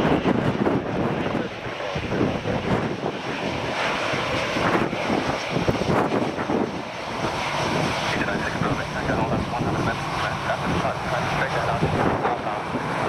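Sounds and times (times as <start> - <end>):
jet engines taxiing: 0.0 - 13.0
wind buffeting microphone: 0.0 - 13.0.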